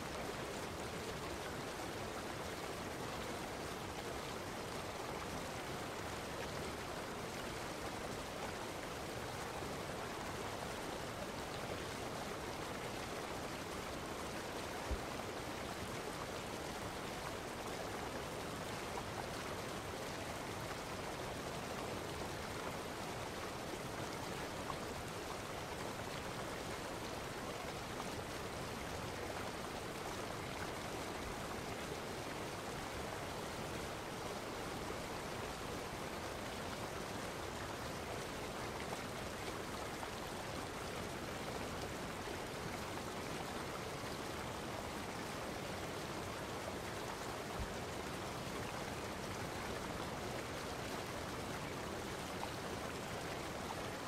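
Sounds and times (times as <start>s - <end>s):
rushing running water: 0.0s - 54.0s.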